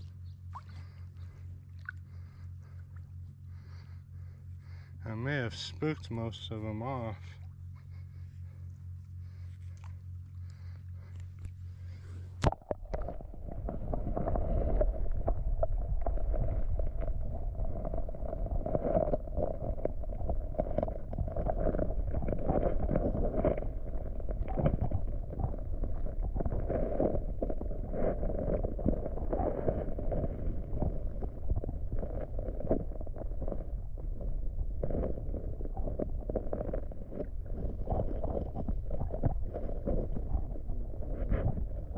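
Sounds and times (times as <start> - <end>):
muffled underwater rumble and gurgle: 0.0 - 41.9.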